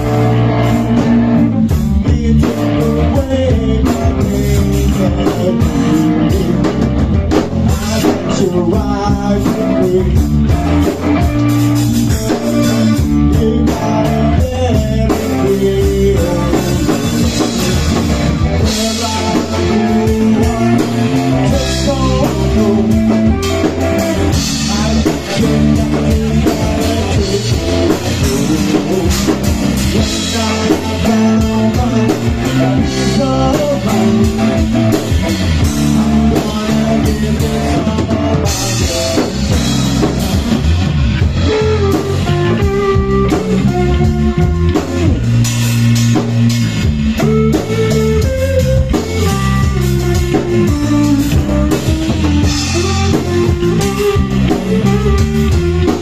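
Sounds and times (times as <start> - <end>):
person singing: 0.0 - 45.2, 47.2 - 56.0
drum kit: 0.0 - 56.0
electric guitars: 0.0 - 56.0.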